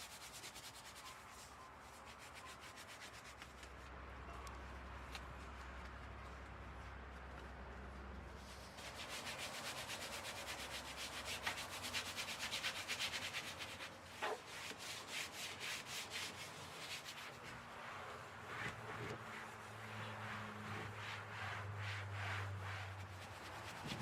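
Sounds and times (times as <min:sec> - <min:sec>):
rhythmic scrubbing on a surface: 0:00.0 - 0:03.9, 0:08.4 - 0:24.0.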